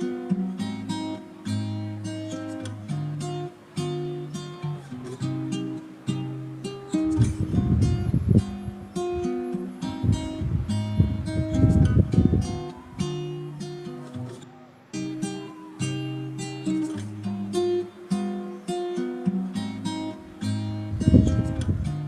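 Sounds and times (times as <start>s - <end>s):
acoustic guitar plucking: 0.0s - 22.0s.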